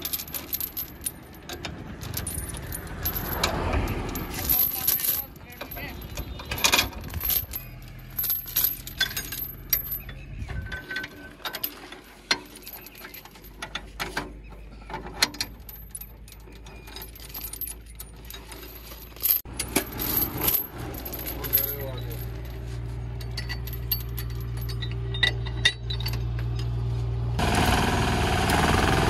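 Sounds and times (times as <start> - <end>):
metal clanks: 0.0 - 27.0
steel chain clinking and rattling: 0.0 - 27.2.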